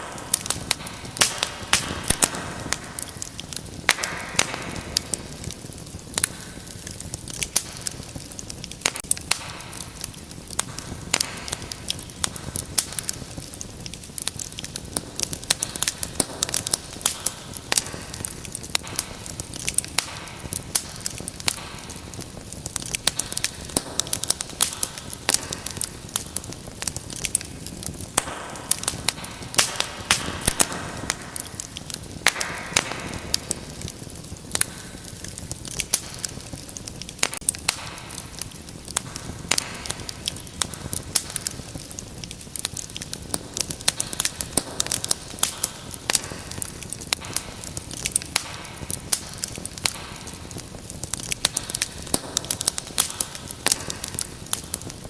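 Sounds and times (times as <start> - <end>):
fire soft hiss: 0.0 - 55.0
wood fire crackling and popping: 0.0 - 55.0.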